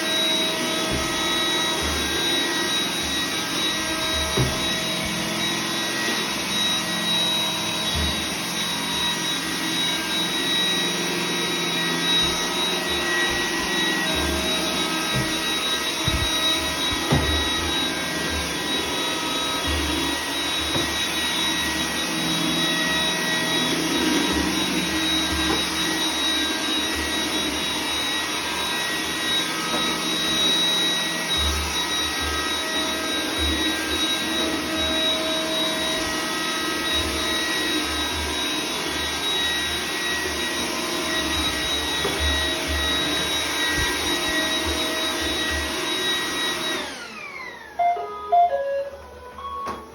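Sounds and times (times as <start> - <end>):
robot vacuum motor whining: 0.0 - 48.3.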